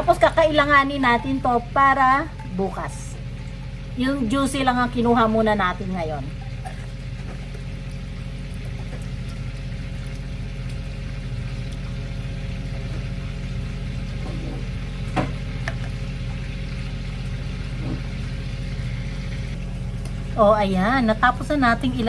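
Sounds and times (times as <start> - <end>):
juice pouring trickle: 0.0 - 20.4
low electrical hum: 0.0 - 22.0.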